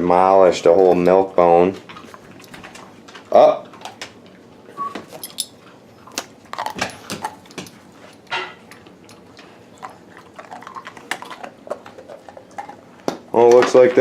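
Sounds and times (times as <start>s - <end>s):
dogs crunching dog biscuits: 0.2s - 14.0s.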